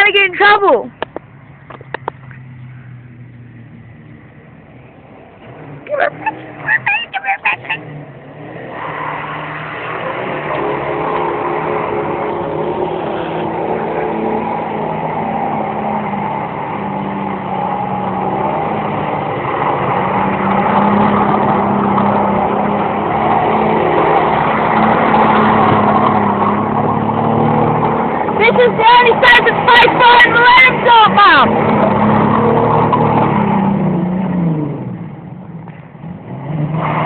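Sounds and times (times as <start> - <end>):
car engine at high revs: 1.0 - 37.0.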